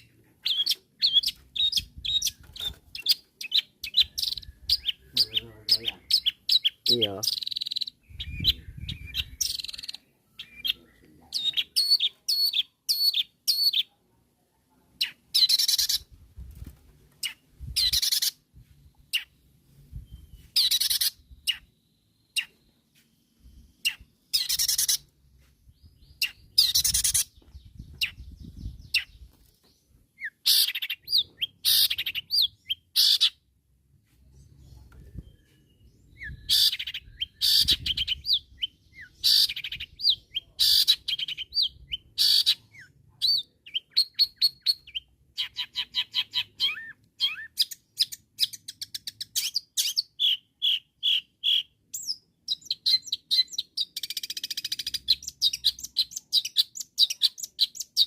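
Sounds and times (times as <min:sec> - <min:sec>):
bird chirping: 0:00.0 - 0:14.0, 0:15.0 - 0:16.2, 0:17.1 - 0:33.5, 0:34.2 - 0:58.0.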